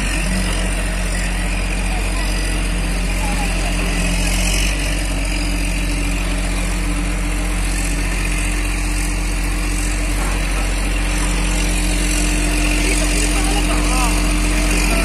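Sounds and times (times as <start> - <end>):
construction machinery engine running: 0.0 - 15.0.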